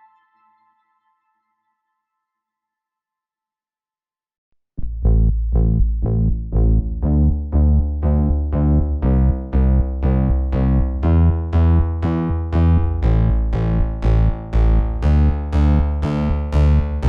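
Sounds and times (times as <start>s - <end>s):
synthesizer and keyboard chords: 0.0s - 2.0s, 4.8s - 17.0s.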